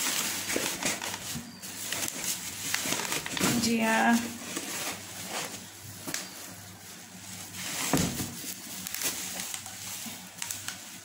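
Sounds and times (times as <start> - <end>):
bubble wrap crinkling: 0.0 - 11.0
cardboard rustling: 0.0 - 11.0.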